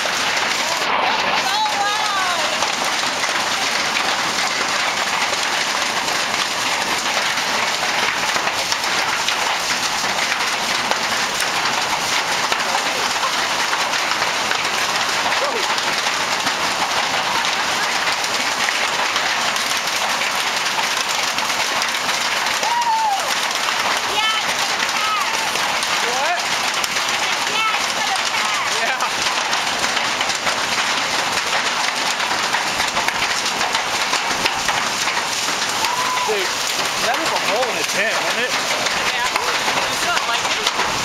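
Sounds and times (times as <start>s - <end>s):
hail falling: 0.0s - 41.0s.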